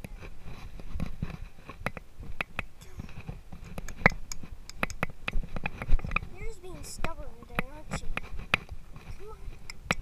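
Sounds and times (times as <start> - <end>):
horse hooves thudding on sand: 0.0 - 10.0
horse tack rattling: 0.0 - 10.0.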